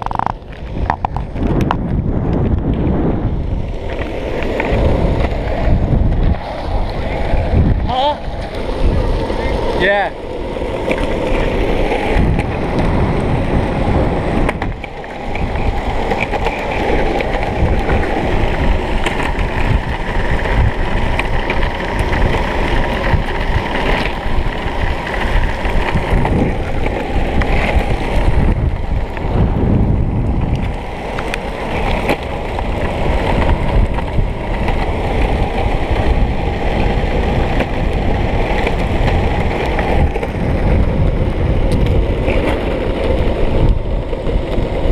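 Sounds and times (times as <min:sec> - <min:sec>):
tyres rumbling over rough path: 0:00.0 - 0:44.9
wind buffeting microphone: 0:00.0 - 0:44.9.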